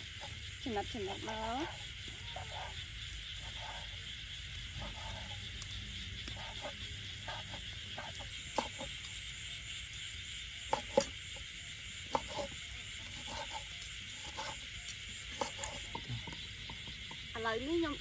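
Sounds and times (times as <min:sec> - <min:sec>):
chorus of night insects: 0:00.0 - 0:18.0.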